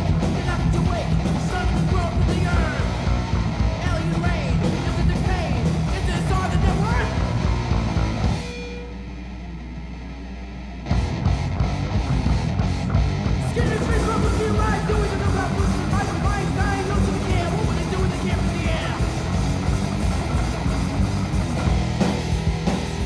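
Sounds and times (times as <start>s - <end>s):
thrash metal band playing: 0.0s - 23.0s.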